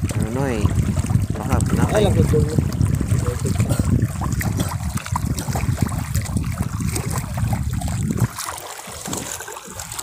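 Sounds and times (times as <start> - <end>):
water lapping against boat hull: 0.0 - 10.0.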